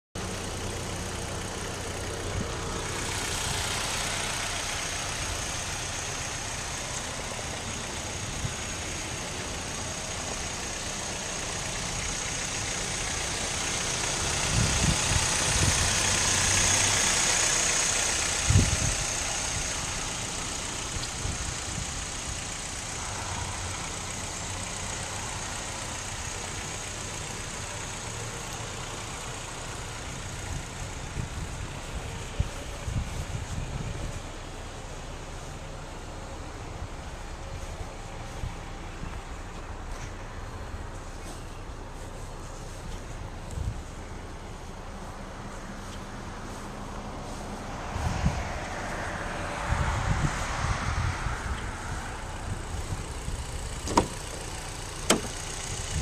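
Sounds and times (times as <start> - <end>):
car engine idling: 0.2 - 56.0.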